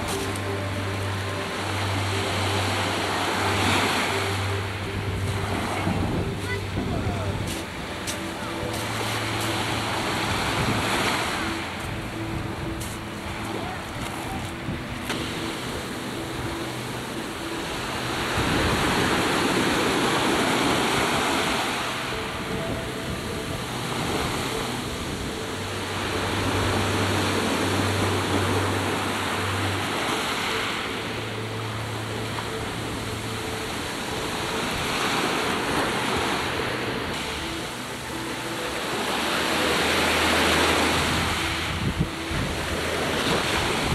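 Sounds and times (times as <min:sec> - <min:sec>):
choppy sea washing: 0:00.0 - 0:43.9
wind: 0:00.0 - 0:43.9.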